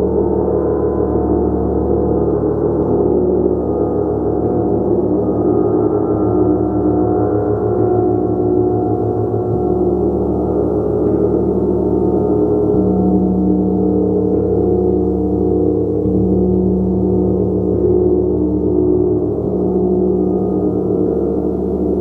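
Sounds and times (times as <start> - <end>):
gong played continuously: 0.0 - 22.0.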